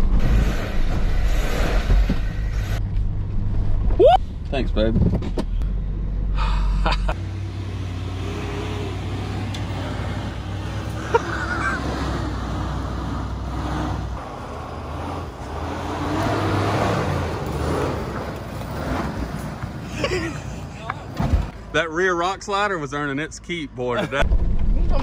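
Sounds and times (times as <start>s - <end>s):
truck engine running at low speed: 0.0s - 24.5s.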